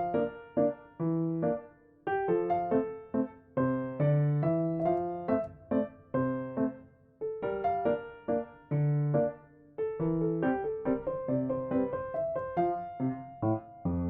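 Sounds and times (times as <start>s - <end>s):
gentle electric piano melody: 0.0s - 14.0s.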